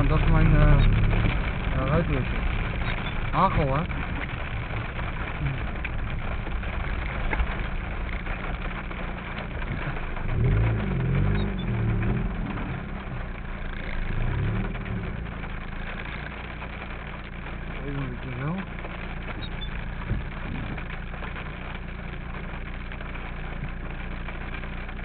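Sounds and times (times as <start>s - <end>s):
car engine hum: 0.0s - 25.0s
rain and tyre noise: 0.0s - 25.0s.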